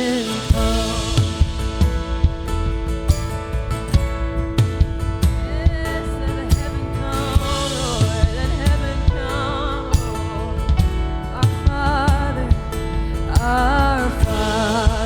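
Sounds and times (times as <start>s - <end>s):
wordless singing with vibrato: 0.0s - 3.3s, 5.0s - 15.0s
steady drum beat: 0.0s - 15.0s
sustained keyboard chords: 0.0s - 15.0s.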